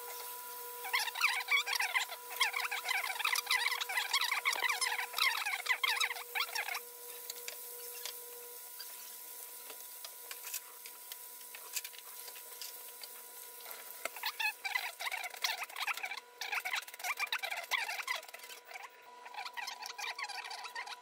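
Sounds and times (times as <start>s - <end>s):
food deep-frying in oil: 0.0s - 21.0s.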